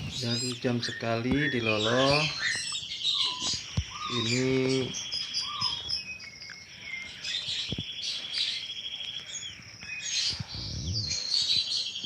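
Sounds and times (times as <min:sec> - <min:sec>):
nestlings chirping: 0:00.0 - 0:12.0.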